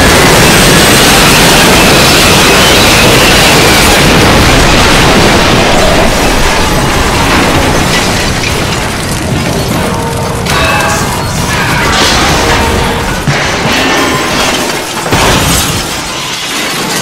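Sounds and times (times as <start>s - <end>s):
loud noisy rush: 0.0s - 15.2s.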